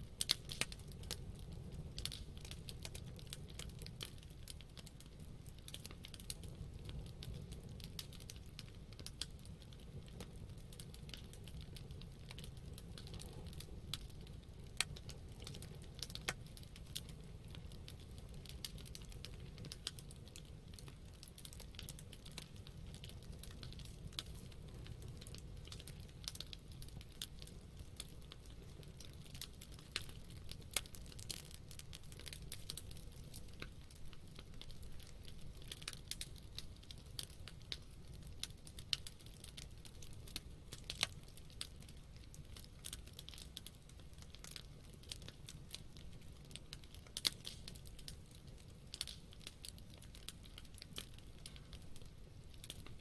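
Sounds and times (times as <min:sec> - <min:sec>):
campfire crackling: 0:00.0 - 0:53.0
pops and snaps of burning wood: 0:00.0 - 0:53.0.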